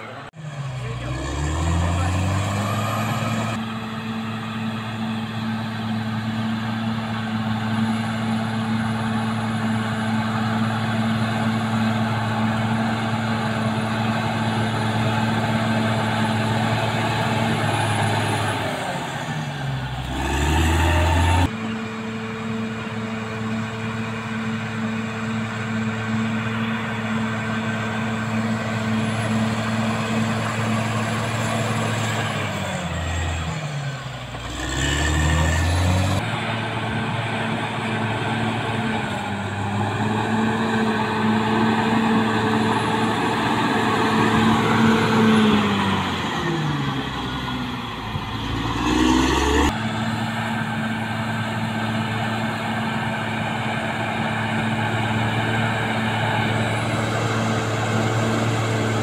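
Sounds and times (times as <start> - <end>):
bulldozer diesel engine running hard: 0.0 - 59.0.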